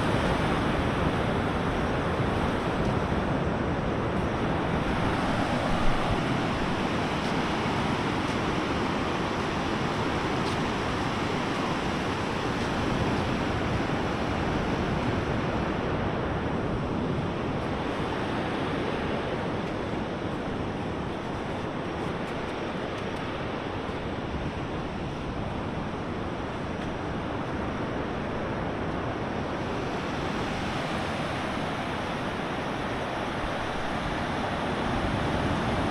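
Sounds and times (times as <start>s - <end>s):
waves breaking on beach: 0.0s - 35.9s.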